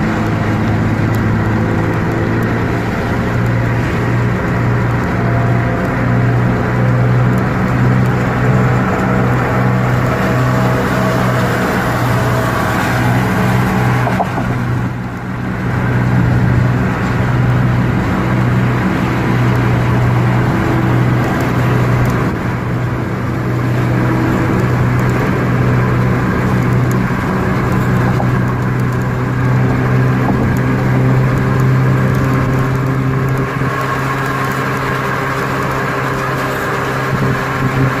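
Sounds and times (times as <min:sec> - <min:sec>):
car cabin engine and tyre drone: 0:00.0 - 0:38.0.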